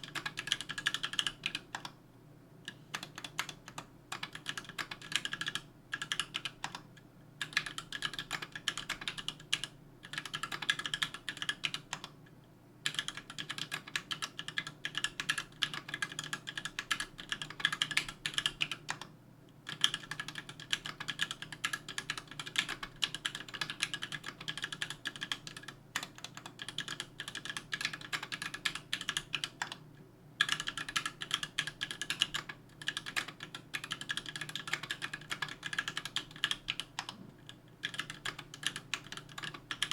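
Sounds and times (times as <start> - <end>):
fast typing on mechanical keyboard: 0.0 - 1.9, 2.9 - 6.8, 7.4 - 12.1, 12.8 - 19.1, 19.7 - 29.8, 30.4 - 37.2, 37.8 - 39.9.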